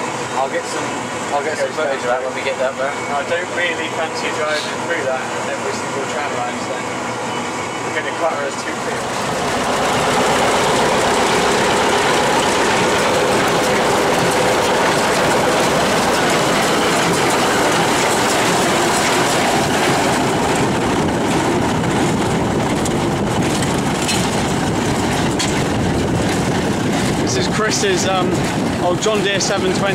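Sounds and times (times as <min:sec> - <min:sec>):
combine harvester running: 0:00.0 - 0:29.9.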